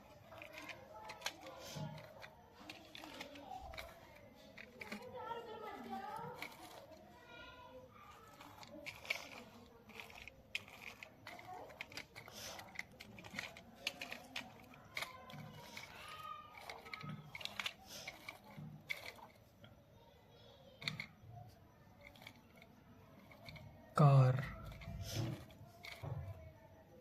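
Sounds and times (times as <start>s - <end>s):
toy cars clicking and tapping: 0.0s - 27.0s.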